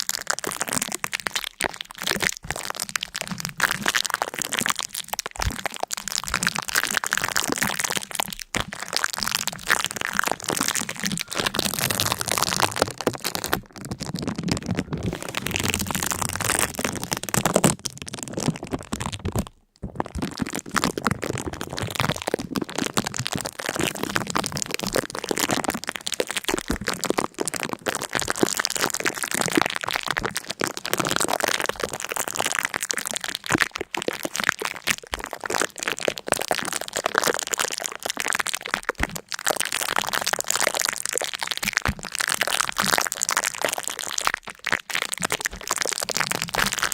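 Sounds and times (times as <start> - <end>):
dense crackling and crunching: 0.0 - 46.9.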